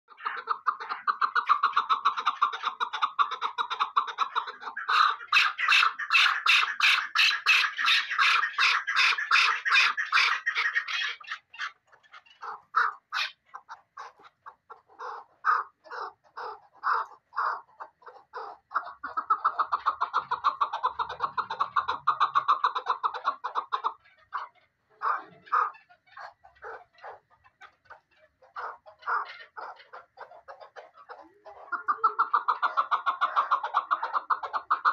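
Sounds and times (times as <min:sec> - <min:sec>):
partridge clucking call: 0:00.1 - 0:34.9.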